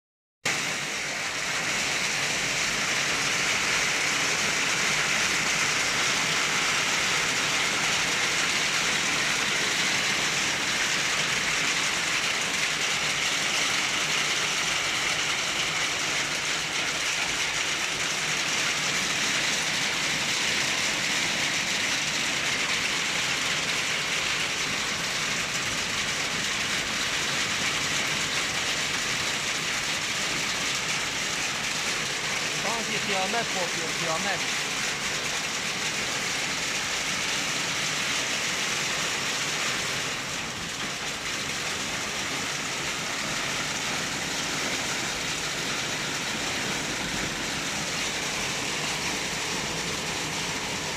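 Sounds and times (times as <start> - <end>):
heavy rain: 0.4 - 50.9
hail falling: 0.5 - 50.9.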